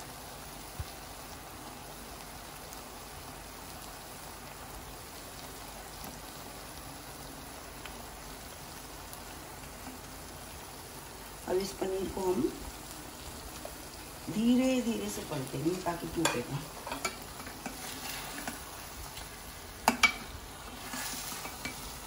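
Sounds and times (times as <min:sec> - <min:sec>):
gravy sizzling in a pan: 0:00.0 - 0:22.0.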